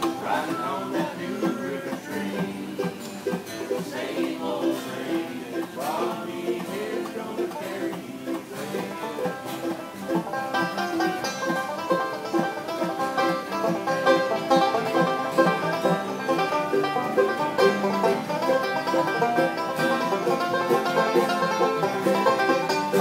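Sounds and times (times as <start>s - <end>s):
banjo picking: 0.0s - 23.0s
bluegrass band playing: 0.0s - 23.0s.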